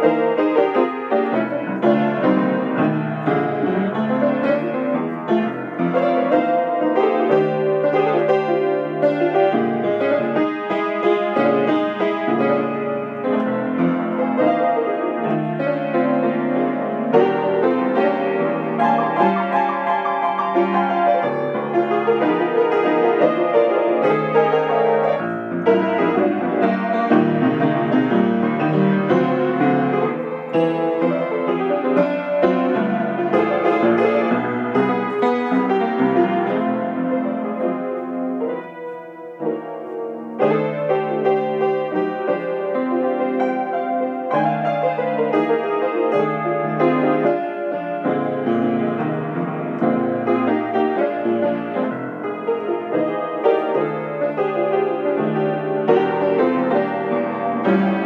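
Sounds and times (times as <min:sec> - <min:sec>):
blues piano: 0:00.0 - 0:58.0.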